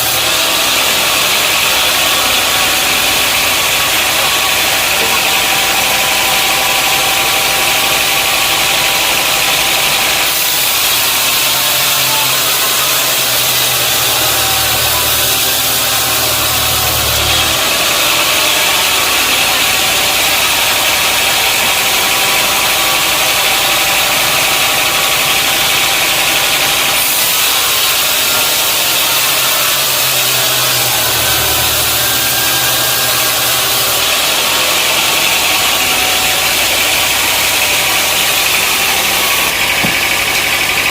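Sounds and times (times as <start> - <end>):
sawmill engine and saw noise: 0.0 - 40.9.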